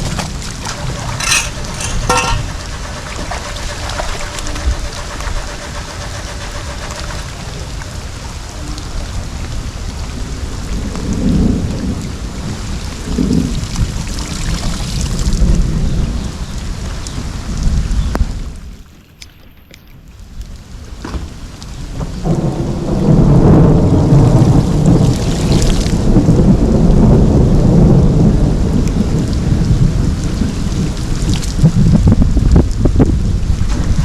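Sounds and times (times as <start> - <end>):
heavy rain and rushing water: 0.0 - 1.9, 2.5 - 18.6, 20.2 - 34.0.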